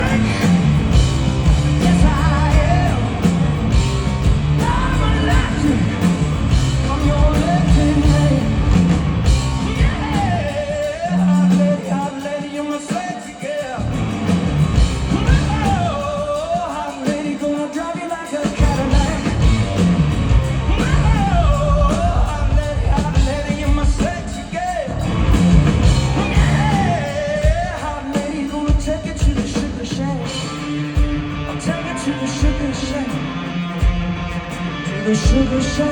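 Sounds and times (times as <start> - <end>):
singer's wordless vocal: 0.0 - 14.2, 14.8 - 35.9
live rock band playing: 0.0 - 35.9.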